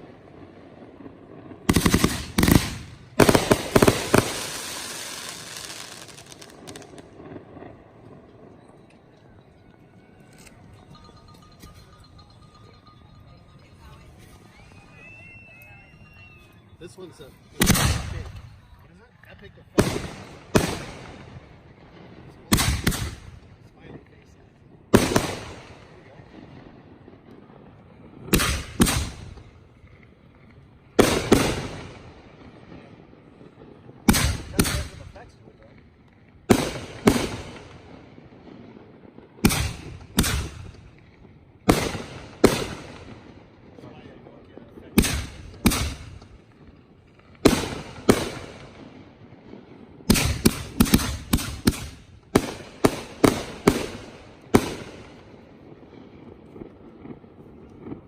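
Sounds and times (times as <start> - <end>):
firework bangs with rolling echo: 0.0 - 13.0, 13.7 - 58.0.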